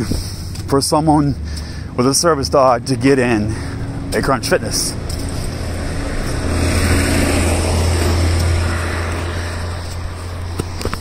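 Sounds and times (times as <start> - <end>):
traffic noise: 0.0 - 11.0
vehicle engine passing: 0.0 - 11.0.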